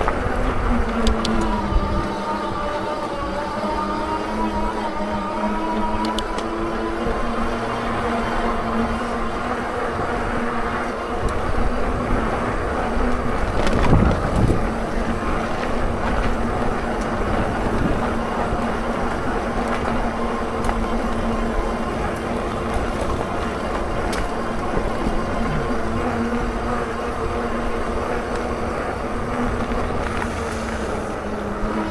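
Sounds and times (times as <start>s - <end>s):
bike tyres rumbling on stones: 0.0s - 31.9s.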